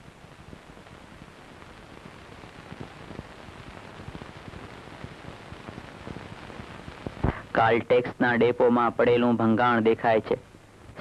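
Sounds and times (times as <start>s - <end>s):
crackles and pops: 0.0s - 11.0s
recording hiss: 0.0s - 11.0s.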